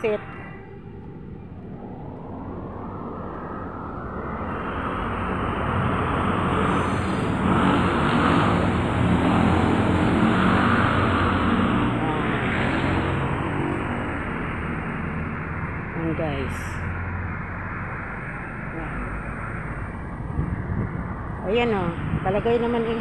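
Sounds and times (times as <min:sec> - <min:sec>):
vehicle passing: 0:00.0 - 0:23.0.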